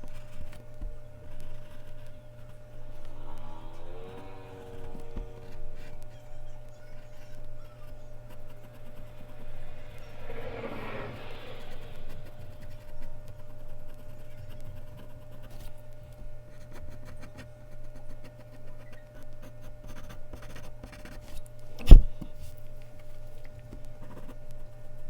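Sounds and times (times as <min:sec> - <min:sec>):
pencil scratching on paper: 0:00.0 - 0:15.9, 0:16.5 - 0:22.1
steady low hum: 0:00.0 - 0:25.0.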